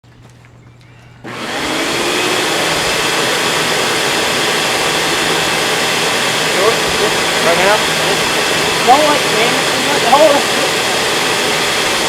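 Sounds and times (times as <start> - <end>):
vacuum cleaner motor running: 1.2 - 12.0.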